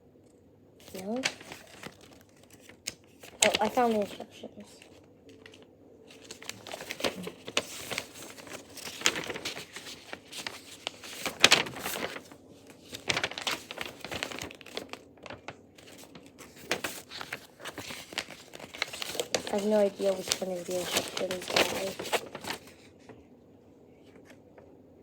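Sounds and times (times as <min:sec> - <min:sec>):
paper crinkling and rustling: 0:00.8 - 0:23.2, 0:24.0 - 0:24.7.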